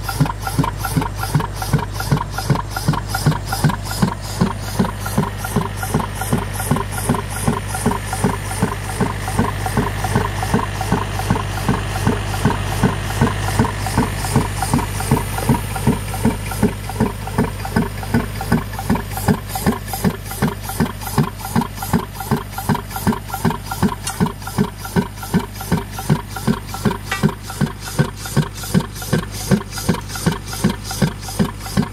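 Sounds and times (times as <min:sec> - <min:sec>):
air compressor engine hum: 0:00.0 - 0:31.9
pneumatic mole hammering: 0:00.0 - 0:31.9.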